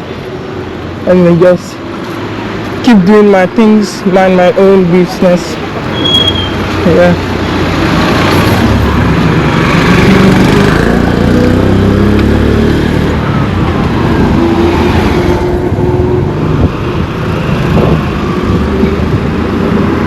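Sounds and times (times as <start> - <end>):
vehicles passing close by: 0.0 - 20.0.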